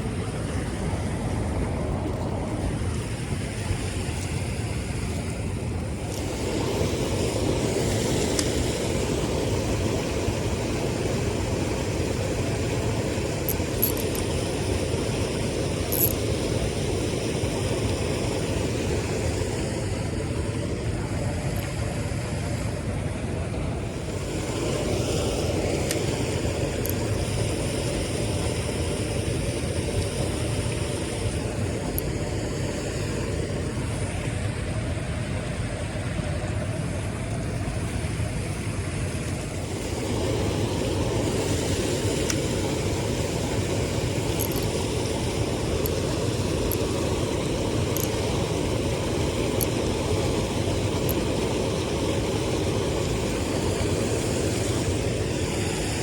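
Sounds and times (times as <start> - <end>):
motor running steadily: 0.0 - 56.0
water noise: 0.0 - 56.0
wind: 0.0 - 56.0.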